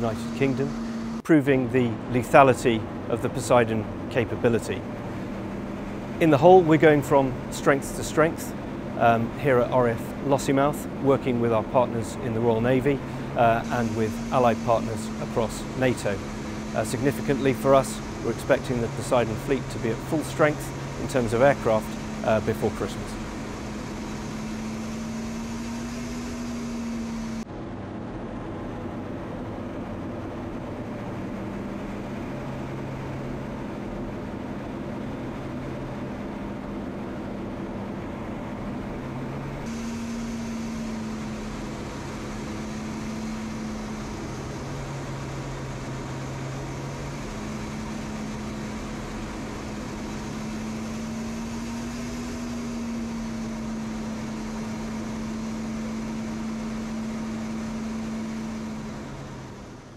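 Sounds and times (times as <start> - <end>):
jet aircraft drone: 0.0 - 59.9.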